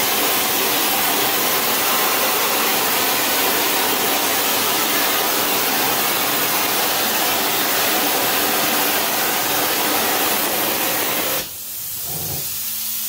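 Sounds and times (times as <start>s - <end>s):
flame-spray gun hissing: 0.0s - 13.0s.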